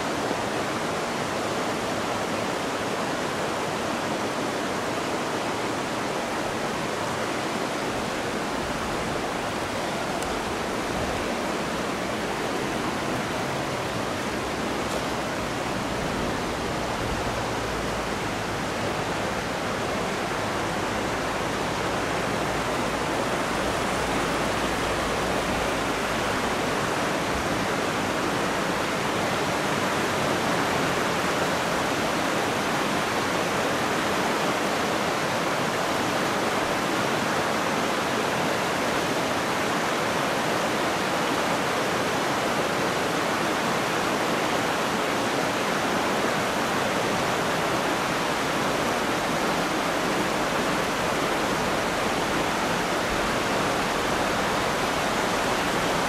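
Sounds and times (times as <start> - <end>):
river babbling over stones: 0.0 - 56.0.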